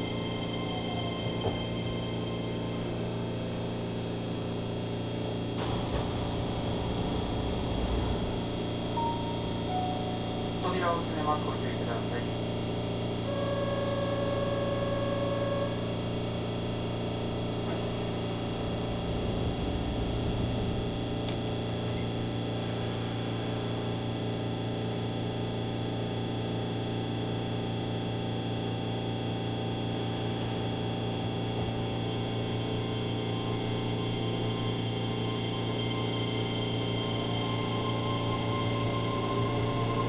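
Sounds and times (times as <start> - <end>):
train equipment hum: 0.0 - 40.0.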